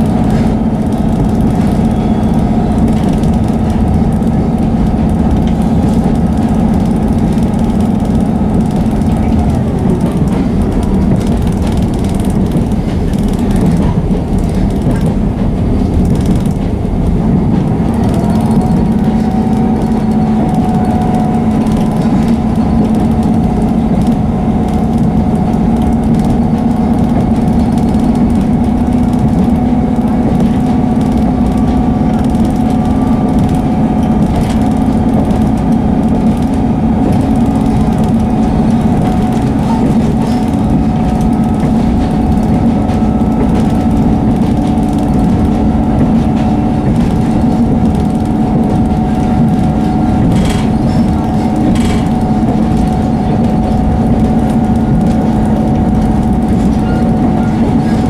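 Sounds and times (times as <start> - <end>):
diesel engine drone: 0.0 - 58.0
wheel and rail noise: 0.0 - 58.0.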